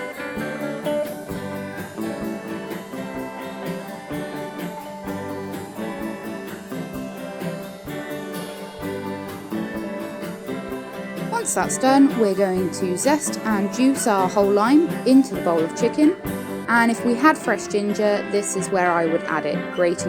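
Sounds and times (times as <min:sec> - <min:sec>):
plucked and strummed guitar: 0:00.0 - 0:16.8.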